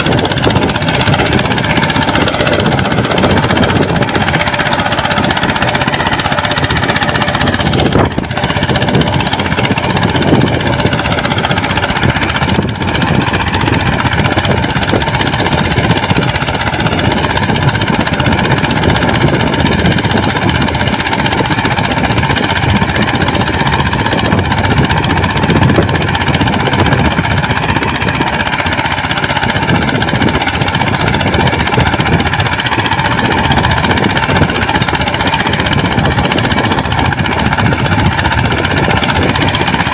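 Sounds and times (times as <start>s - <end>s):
small tractor engine knocking: 0.0s - 39.9s.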